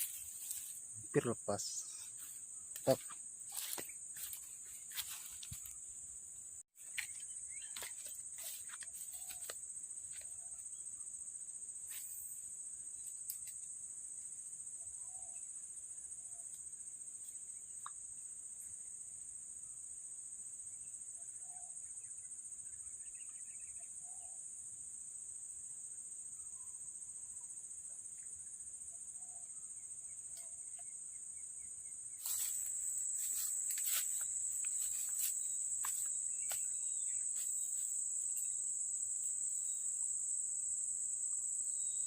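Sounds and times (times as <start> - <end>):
insect chorus: 0.0 - 42.0.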